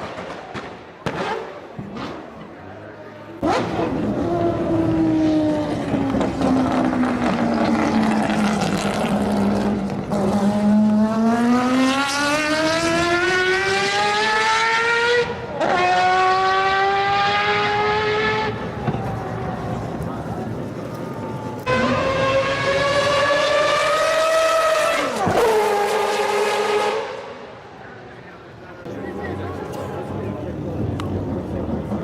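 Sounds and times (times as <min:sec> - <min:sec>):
race car engine: 0:01.0 - 0:32.0.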